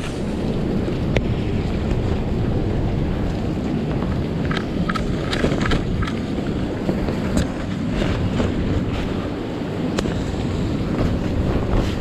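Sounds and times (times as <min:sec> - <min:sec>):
storm wind buffeting microphone: 0:00.0 - 0:12.0.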